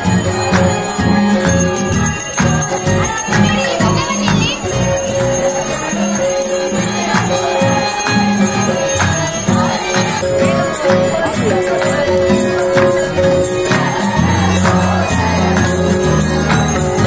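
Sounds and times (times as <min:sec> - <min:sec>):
jingling bells: 0:00.0 - 0:17.0.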